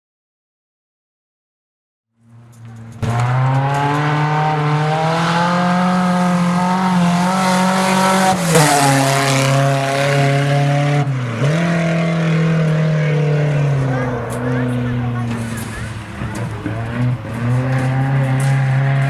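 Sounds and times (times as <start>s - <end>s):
race car engine revving: 2.3s - 19.0s.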